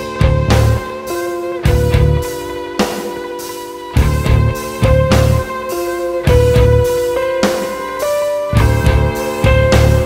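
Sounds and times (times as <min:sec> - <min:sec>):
guitar and drum background music: 0:00.0 - 0:10.0.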